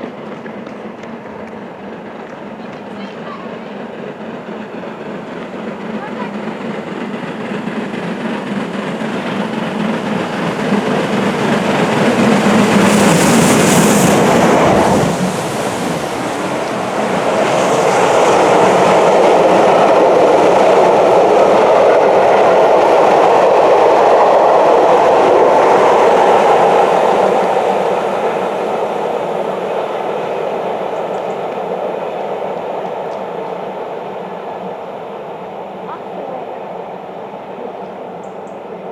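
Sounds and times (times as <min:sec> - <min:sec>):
steam locomotive exhaust: 0:00.0 - 0:38.9.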